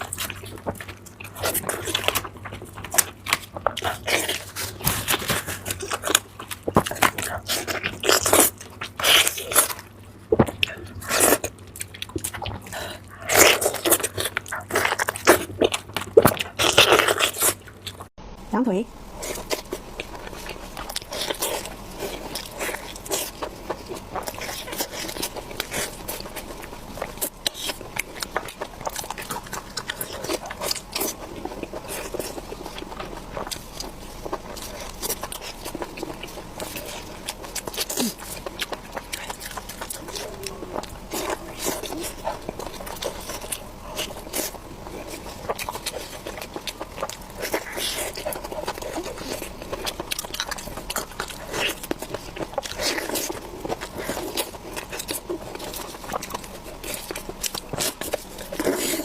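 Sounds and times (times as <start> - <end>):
close chewing and biting: 0.0 - 18.1, 19.1 - 59.0.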